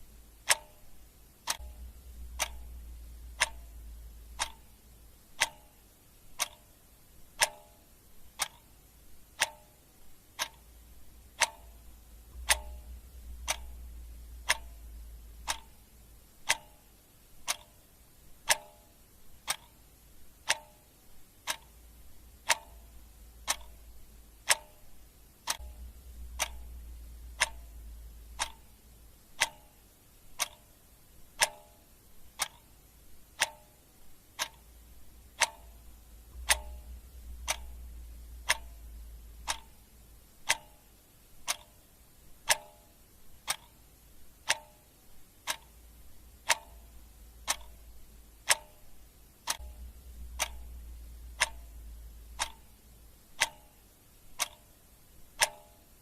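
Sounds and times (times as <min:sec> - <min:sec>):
clock ticking: 0:00.0 - 0:56.0
faint low hum: 0:00.0 - 0:56.0.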